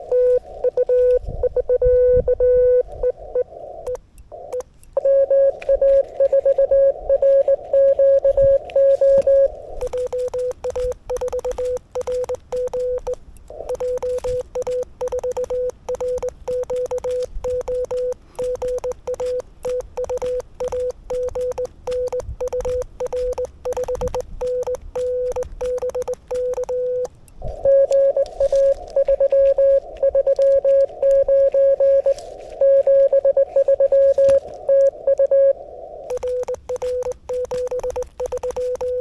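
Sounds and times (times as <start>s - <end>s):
higher-pitched morse code beeps: 0.0s - 39.0s
morse code sidetone beeps: 0.0s - 39.0s
receiver hiss: 0.0s - 39.0s.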